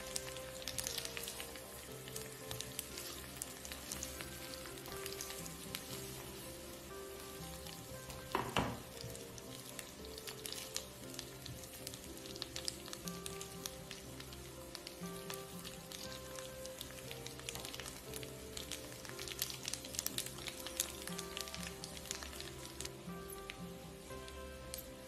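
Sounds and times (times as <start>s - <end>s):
food sizzling in a frying pan: 0.0s - 25.0s
soft background music: 0.0s - 25.0s.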